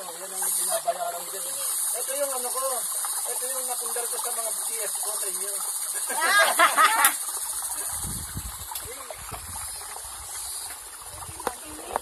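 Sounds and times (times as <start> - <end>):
mountain stream running: 0.0 - 12.0.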